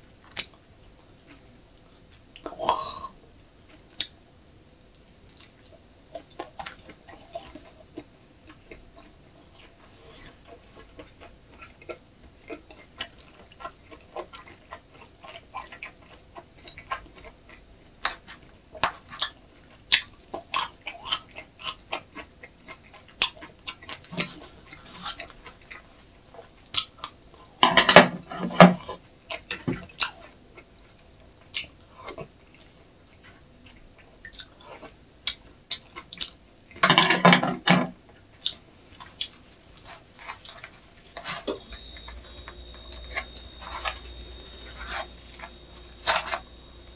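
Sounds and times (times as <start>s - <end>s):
chewing and mouth clicks: 0.2s - 2.5s, 4.9s - 27.6s, 28.8s - 36.8s, 38.1s - 46.9s.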